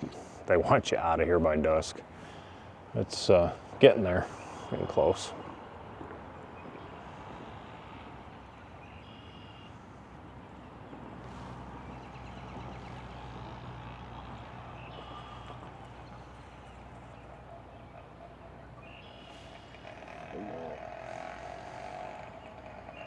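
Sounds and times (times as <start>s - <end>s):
outdoor background noise: 0.0s - 23.0s
vehicle engine humming: 0.0s - 23.0s.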